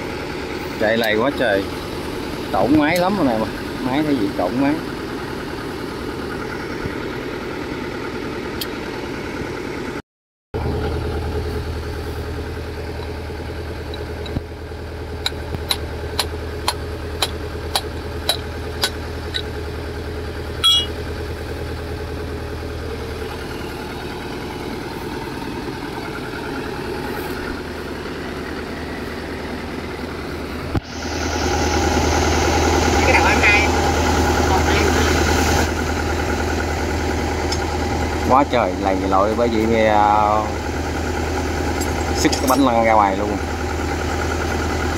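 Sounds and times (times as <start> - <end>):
harvester engine idling: 0.0 - 10.0, 10.6 - 44.9.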